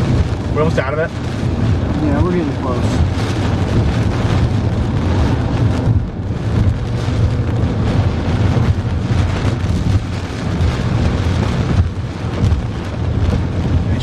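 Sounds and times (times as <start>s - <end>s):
car driving in wind and rain: 0.0s - 14.0s.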